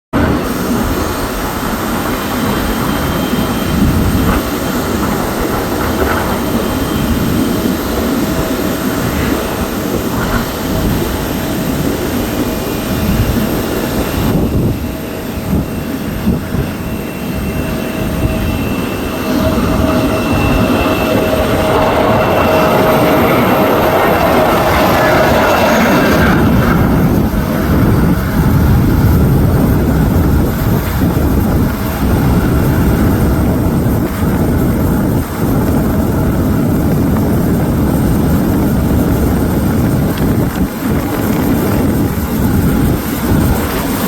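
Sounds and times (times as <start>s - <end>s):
jet engines rumbling with whine: 0.1s - 44.0s.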